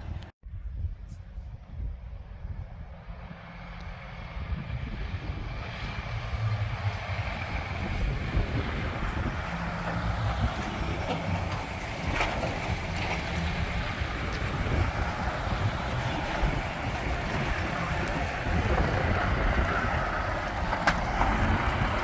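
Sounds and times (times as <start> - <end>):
diesel truck engine approaching: 1.2 - 22.0.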